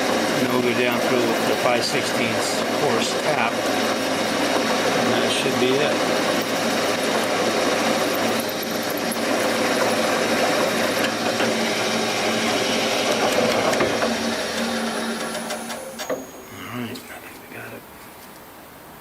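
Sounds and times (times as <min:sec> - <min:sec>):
drill grinding metal: 0:00.0 - 0:16.6
machine motor hum: 0:00.0 - 0:17.6.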